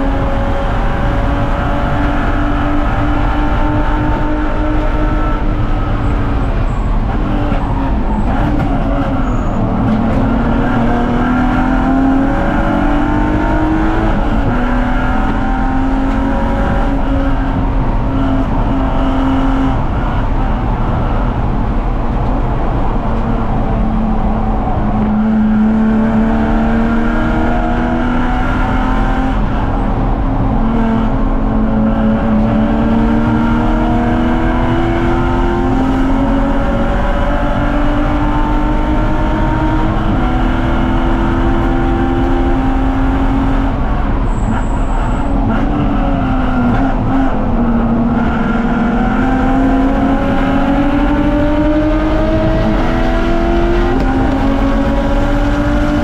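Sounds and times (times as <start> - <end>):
race car engine at speed: 0.0 - 56.0
wind noise: 0.0 - 56.0.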